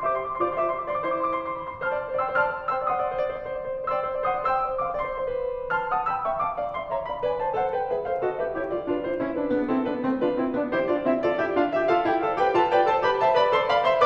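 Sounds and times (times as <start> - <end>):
solo piano music: 0.0 - 14.0.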